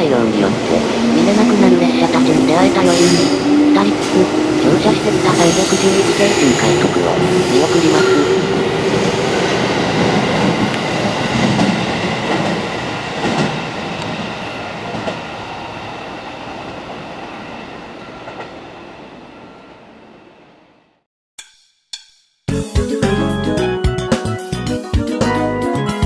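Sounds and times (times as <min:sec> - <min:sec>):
electric train departing: 0:00.0 - 0:21.0.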